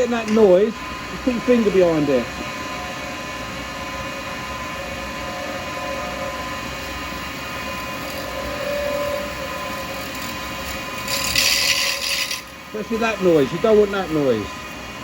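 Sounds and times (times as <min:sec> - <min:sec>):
wood lathe humming and whining: 0:00.0 - 0:15.0.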